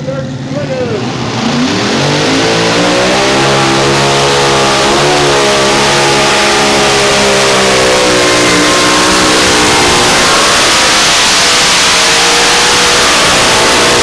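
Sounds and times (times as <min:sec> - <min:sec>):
engine revving under load: 0:00.3 - 0:14.0.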